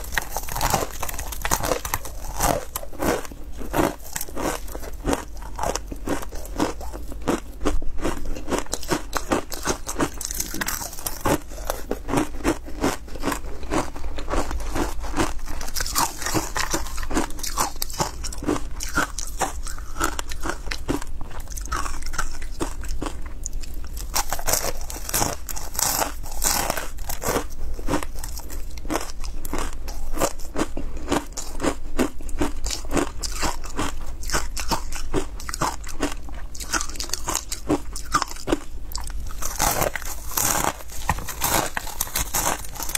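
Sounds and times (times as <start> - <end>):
ice being chewed crunching: 0.0 - 42.9.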